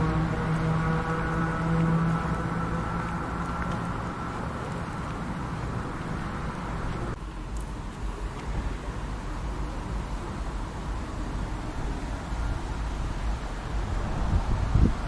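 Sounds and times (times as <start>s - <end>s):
steady low hum: 0.0s - 15.0s
street background noise: 0.0s - 15.0s.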